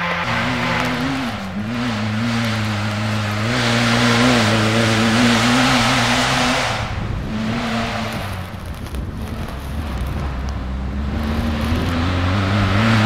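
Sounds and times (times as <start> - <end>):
motorbike engine high revs: 0.0 - 13.0.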